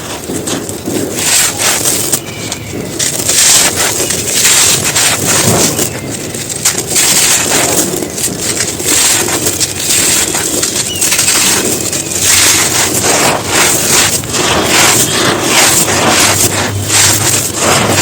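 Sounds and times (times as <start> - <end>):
dry chunks crunching: 0.0 - 18.0.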